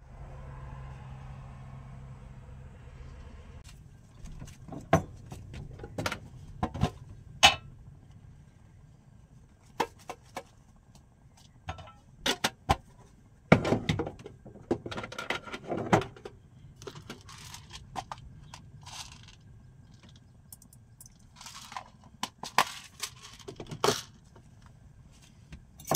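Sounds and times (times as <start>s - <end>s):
low steady rumble: 0.0s - 25.9s.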